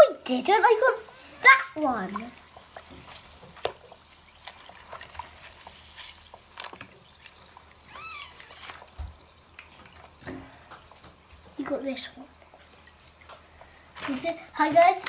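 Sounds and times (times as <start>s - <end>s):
water drips: 0.0s - 15.0s.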